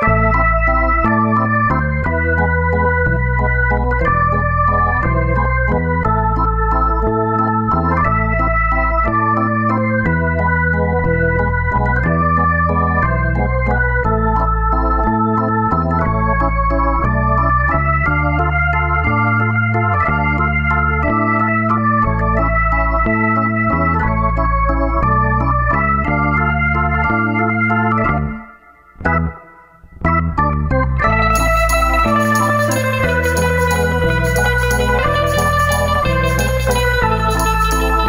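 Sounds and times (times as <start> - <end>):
bass line: 0.0 - 38.0
electronic organ chords: 0.0 - 38.0.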